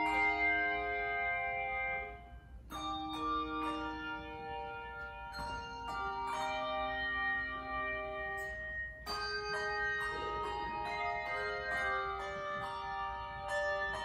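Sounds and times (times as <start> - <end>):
handbell chords ringing: 0.0 - 14.0.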